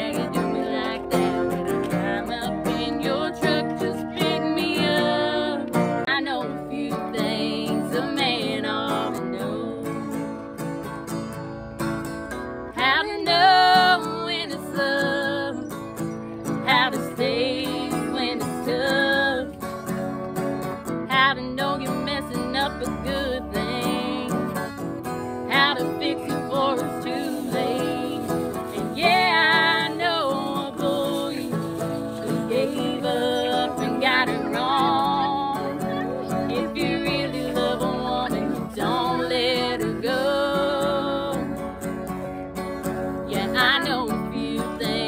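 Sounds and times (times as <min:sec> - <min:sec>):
women singing: 0:00.0 - 0:10.4, 0:12.8 - 0:19.8, 0:21.1 - 0:24.8, 0:25.4 - 0:41.8, 0:42.9 - 0:45.0
acoustic guitar strumming: 0:00.0 - 0:45.0.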